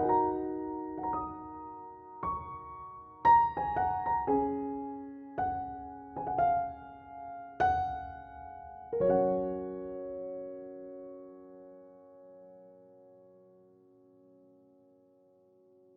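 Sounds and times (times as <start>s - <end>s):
slow gentle piano music: 0.0s - 15.9s.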